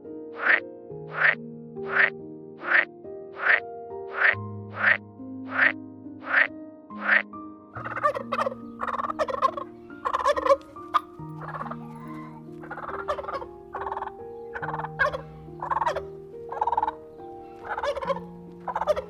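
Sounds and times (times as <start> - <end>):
turkeys gobbling: 0.4 - 2.8, 3.4 - 7.2, 7.8 - 19.0.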